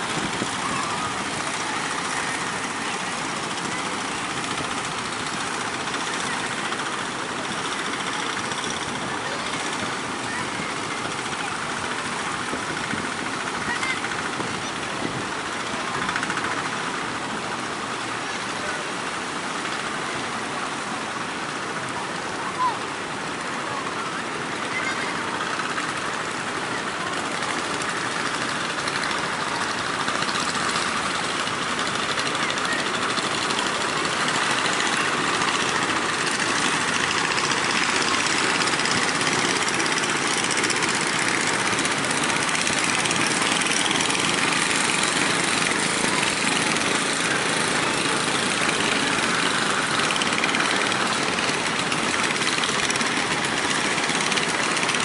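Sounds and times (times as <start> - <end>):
rough surf breaking: 0.0 - 55.0
wind: 0.0 - 55.0.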